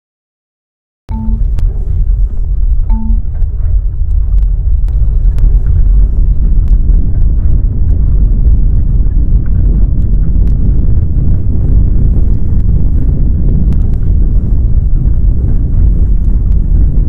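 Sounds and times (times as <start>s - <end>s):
deep earthquake rumble: 1.1s - 17.0s.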